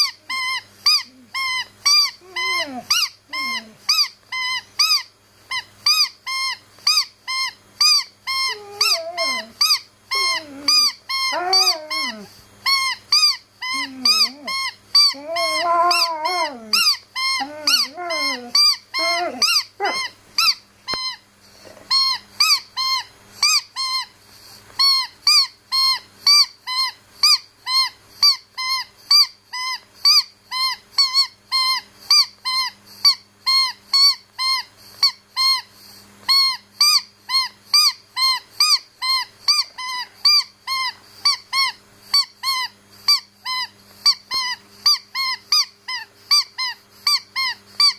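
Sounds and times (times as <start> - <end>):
squeaky dog toy squeaking: 0.0 - 24.1, 24.8 - 35.7, 36.3 - 47.9
dog whining: 0.0 - 24.2, 24.8 - 35.7, 36.3 - 47.9.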